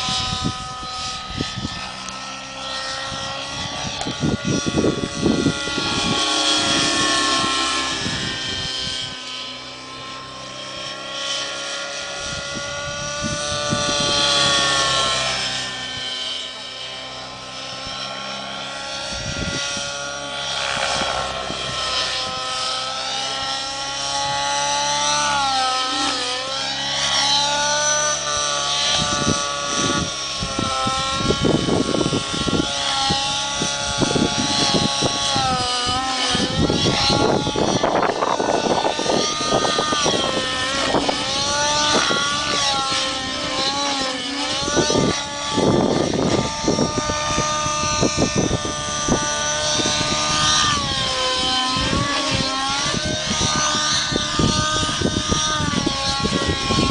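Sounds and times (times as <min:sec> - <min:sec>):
model helicopter engine whine: 0:00.0 - 0:56.9.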